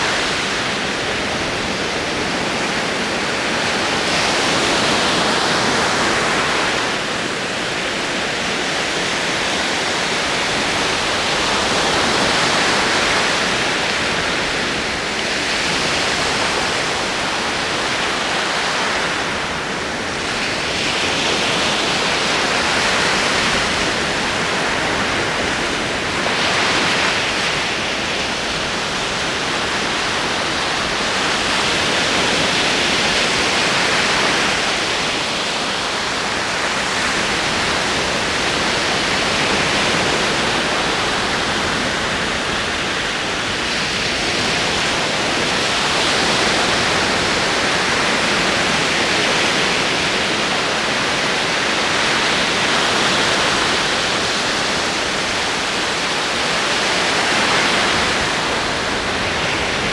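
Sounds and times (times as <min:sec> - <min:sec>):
ocean waves on shore: 0:00.0 - 0:59.9.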